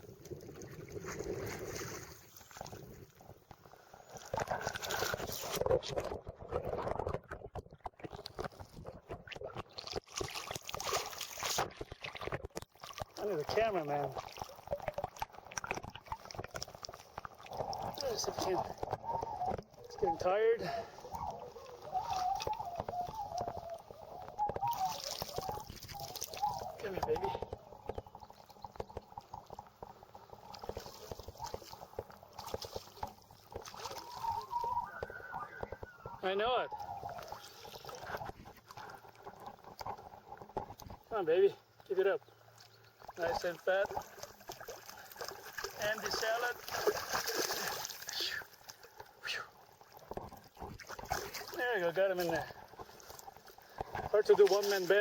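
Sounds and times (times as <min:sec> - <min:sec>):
water moving: 0:00.0 - 0:55.0.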